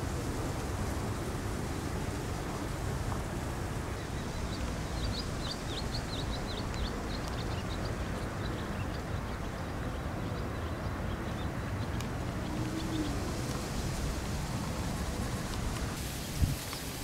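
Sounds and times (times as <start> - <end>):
small birds chirping: 2.0 - 17.0.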